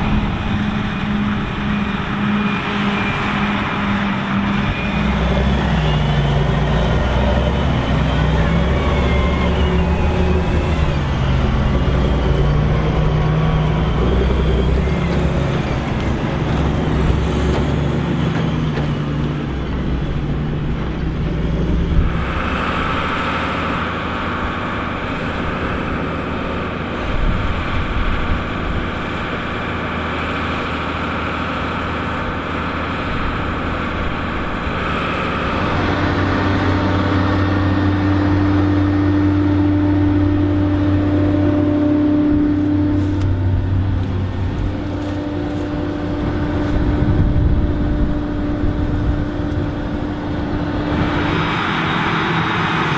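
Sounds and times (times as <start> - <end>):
tractor engines running: 0.0 - 52.9.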